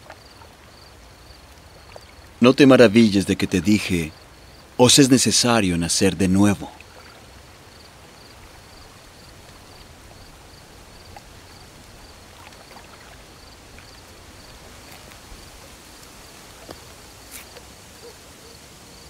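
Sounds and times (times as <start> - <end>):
cricket chirping: 0.0 - 5.6, 6.4 - 19.0
trickling water: 0.0 - 19.0.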